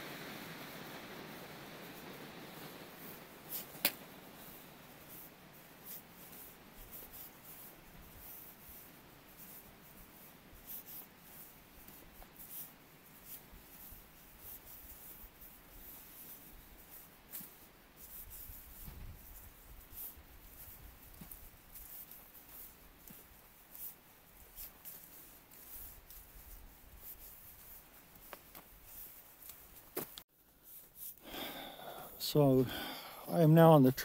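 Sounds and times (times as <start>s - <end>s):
footsteps on dry pine needles: 3.5s - 32.2s.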